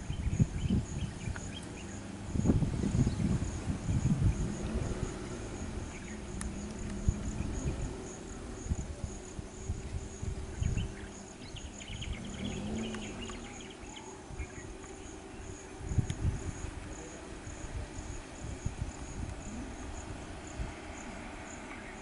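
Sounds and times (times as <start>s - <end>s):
insect chirping: 0.0s - 22.0s
low rumbling: 0.0s - 22.0s.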